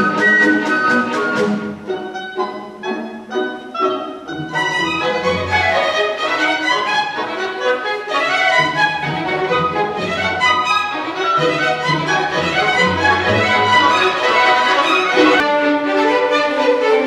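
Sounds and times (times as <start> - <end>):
orchestra playing: 0.0 - 17.0.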